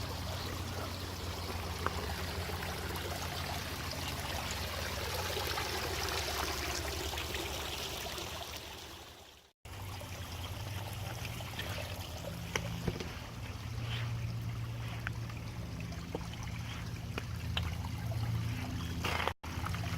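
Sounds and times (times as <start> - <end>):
brook water running: 0.0 - 19.9.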